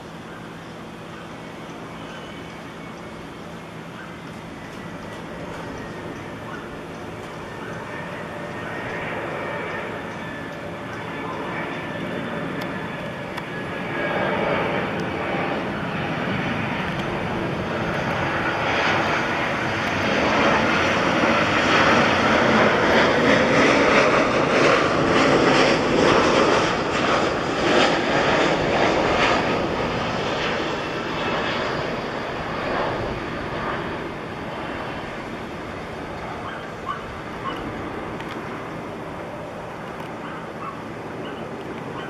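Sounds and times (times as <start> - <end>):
jet engines landing: 0.0 - 42.0.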